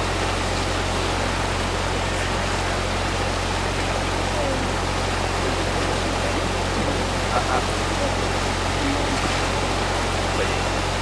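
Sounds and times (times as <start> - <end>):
constant low hum: 0.0 - 11.0
river water rushing: 0.0 - 11.0.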